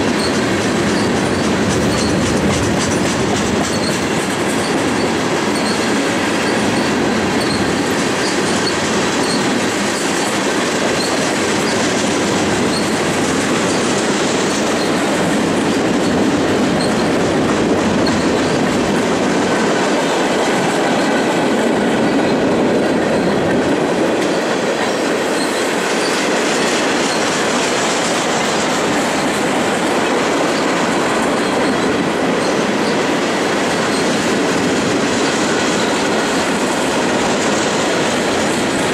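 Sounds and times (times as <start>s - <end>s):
steel wheels rumbling on rail: 0.0s - 38.9s
wheels clacking over rail joints: 0.0s - 38.9s.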